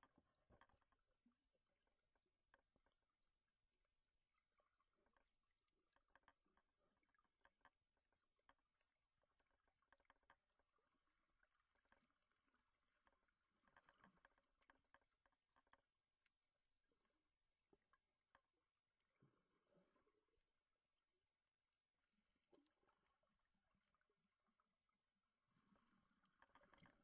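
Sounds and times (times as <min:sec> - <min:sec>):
small clicks and crackle: 0:00.0 - 0:21.2, 0:22.0 - 0:27.0.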